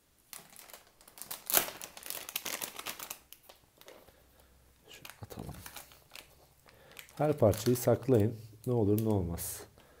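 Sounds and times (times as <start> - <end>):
plastic bag crinkling: 0.3 - 9.6.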